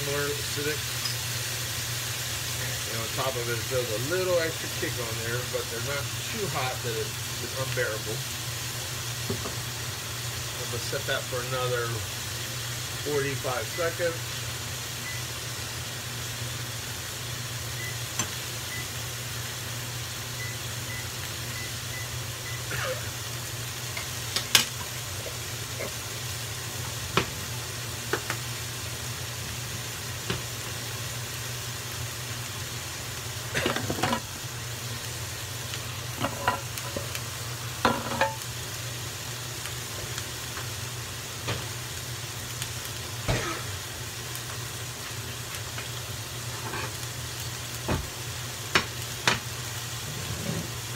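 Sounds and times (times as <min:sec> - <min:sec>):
steak sizzling in a frying pan: 0:00.0 - 0:50.9.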